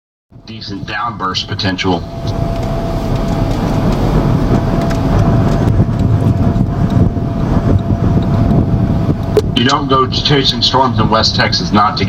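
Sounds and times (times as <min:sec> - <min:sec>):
road and wind rumble: 0:00.3 - 0:12.0
faint steady whine: 0:00.4 - 0:12.0.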